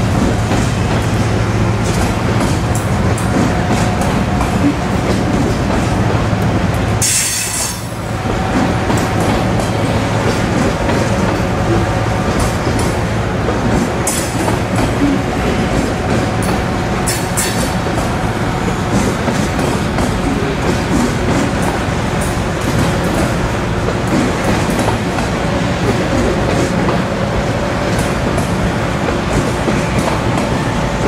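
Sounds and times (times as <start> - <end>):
train wheels rumbling and clattering: 0.0 - 31.0.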